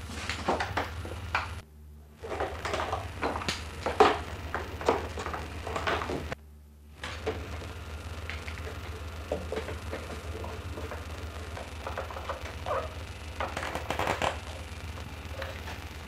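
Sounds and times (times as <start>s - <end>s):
low mains hum: 0.0s - 16.0s.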